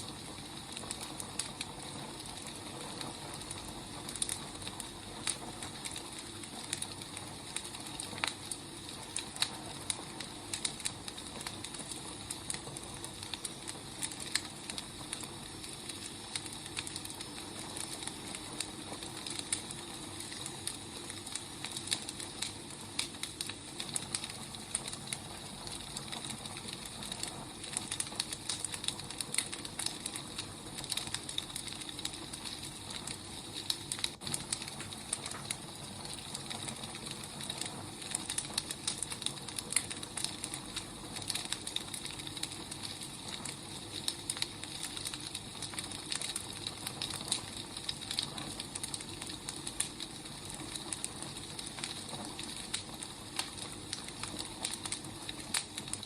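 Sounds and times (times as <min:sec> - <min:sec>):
firewood crackling and popping: 0:00.0 - 0:56.0.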